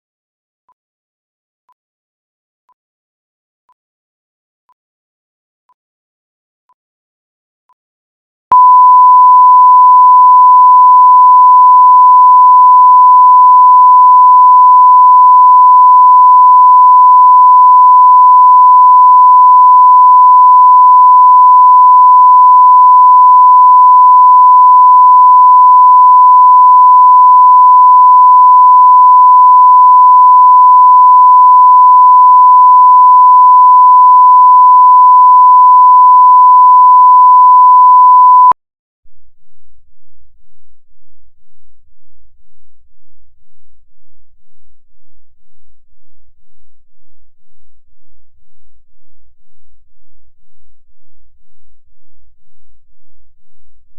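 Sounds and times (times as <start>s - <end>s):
sine test tone: 8.5s - 53.6s.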